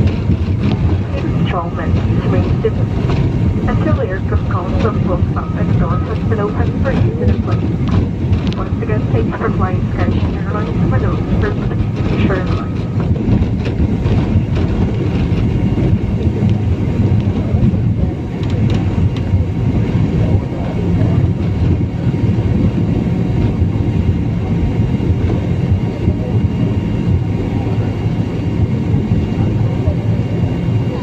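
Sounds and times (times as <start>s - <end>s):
faint high engine whine: 0.0s - 31.0s
jet cabin rumble while taxiing: 0.0s - 31.0s.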